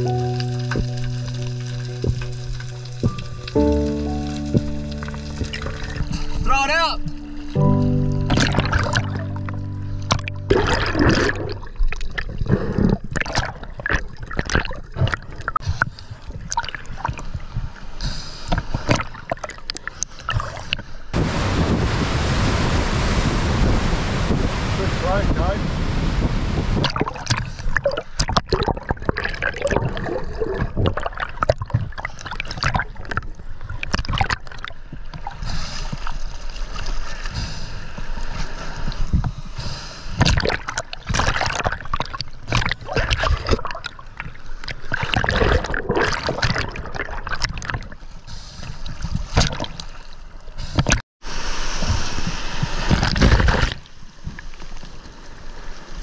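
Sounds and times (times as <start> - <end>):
sea water splashing and gurgling: 0.0 - 56.0.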